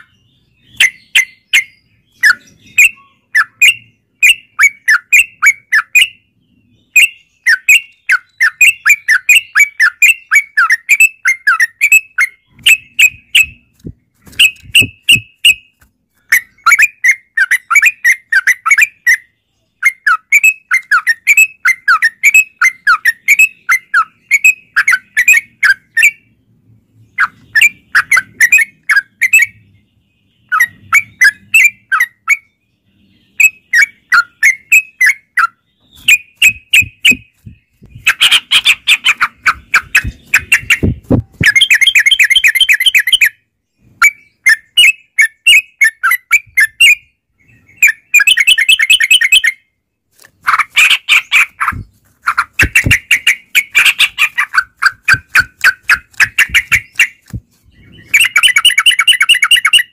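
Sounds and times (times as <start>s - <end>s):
bulbuls chattering song: 0.0s - 26.4s, 27.1s - 49.6s, 50.2s - 59.9s.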